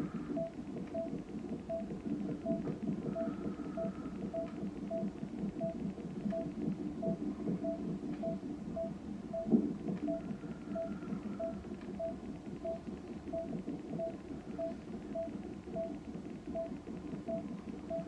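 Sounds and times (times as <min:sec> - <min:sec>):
amplified fetal heartbeat pulsing: 0:00.0 - 0:18.0
electronic monitor beep: 0:00.3 - 0:18.0.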